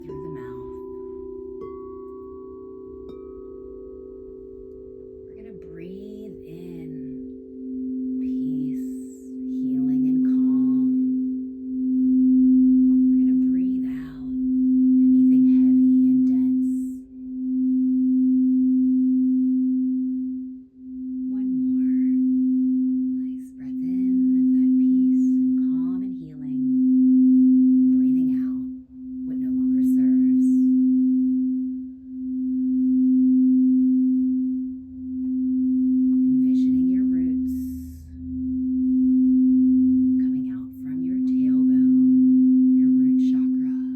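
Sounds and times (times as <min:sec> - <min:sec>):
singing bowl tone: 0:00.0 - 0:43.9.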